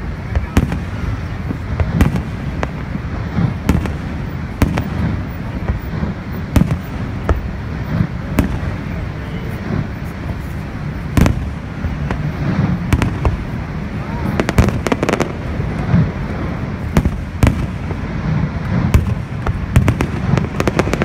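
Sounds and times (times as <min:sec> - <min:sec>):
steady low rush: 0:00.0 - 0:21.0.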